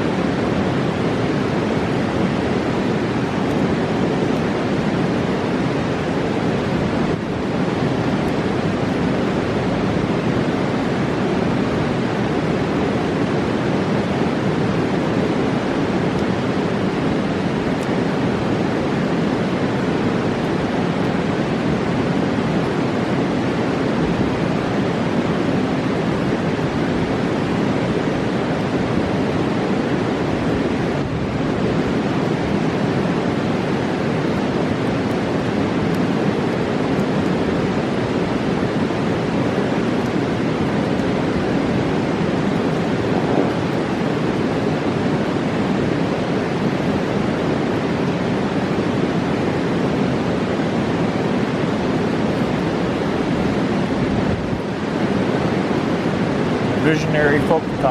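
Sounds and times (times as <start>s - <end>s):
river rushing: 0.0s - 57.9s.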